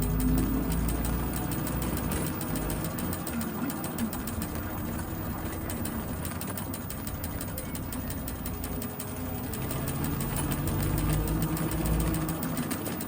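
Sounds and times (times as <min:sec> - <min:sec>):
bicycle clicking while ridden: 0:00.0 - 0:13.0.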